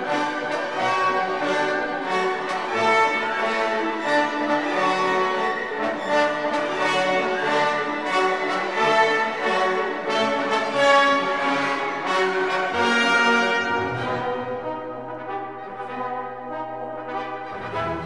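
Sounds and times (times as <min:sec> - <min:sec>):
french horn: 0:00.0 - 0:18.0
orchestral music: 0:00.0 - 0:18.0.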